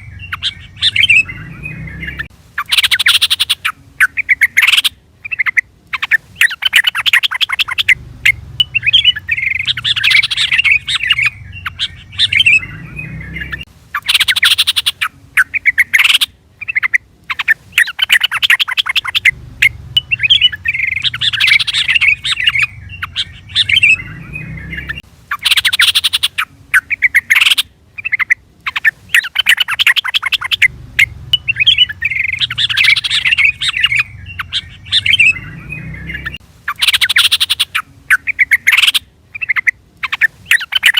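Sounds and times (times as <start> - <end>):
bulbul calling: 0.0 - 40.9.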